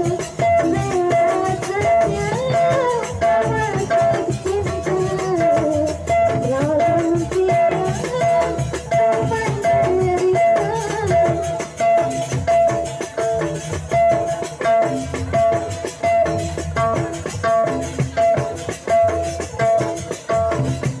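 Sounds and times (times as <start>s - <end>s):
band music with drums and percussion: 0.0s - 21.0s.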